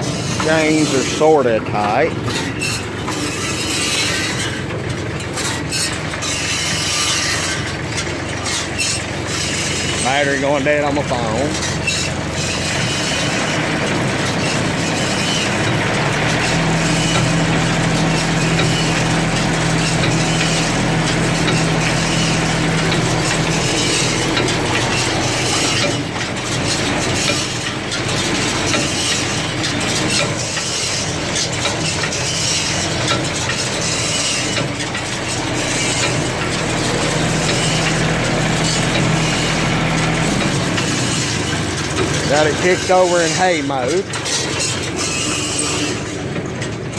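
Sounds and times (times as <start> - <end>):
baler mechanical clatter: 0.0 - 46.9
tractor diesel engine running: 0.0 - 46.9.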